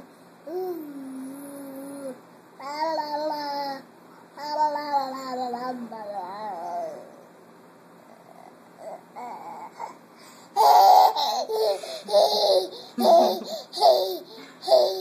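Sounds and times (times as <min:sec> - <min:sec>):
baby babbling: 0:00.5 - 0:07.2, 0:08.1 - 0:10.0, 0:10.6 - 0:15.0.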